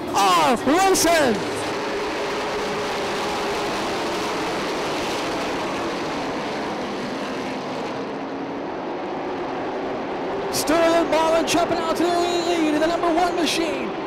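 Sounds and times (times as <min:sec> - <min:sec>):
race car engines roaring: 0:00.0 - 0:14.0.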